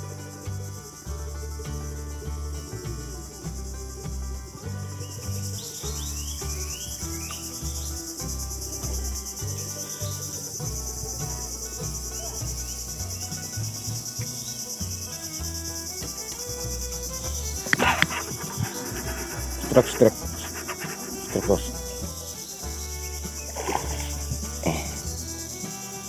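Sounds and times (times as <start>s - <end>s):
insects shrilling: 5.0s - 26.0s.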